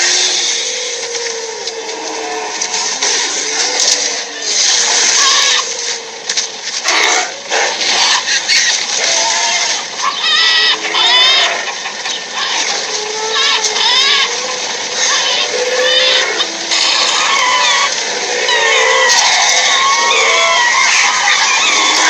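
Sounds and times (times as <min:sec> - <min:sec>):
animal calls: 0:00.0 - 0:22.0
stampede rush: 0:00.0 - 0:22.0.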